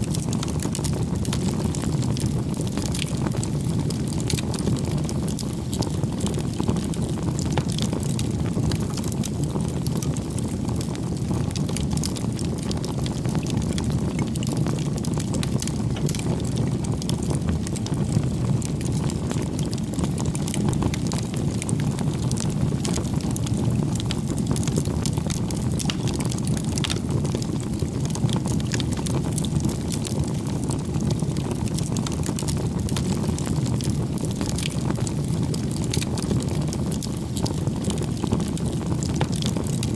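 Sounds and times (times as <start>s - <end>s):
campfire flames rumbling: 0.0s - 39.9s
wood crackling and popping: 0.0s - 39.9s.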